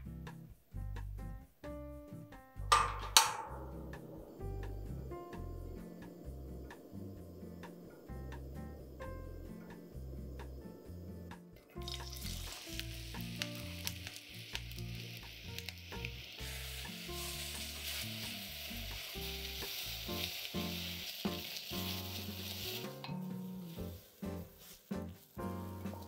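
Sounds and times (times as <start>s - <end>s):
onions sizzling in oil: 3.7s - 26.0s.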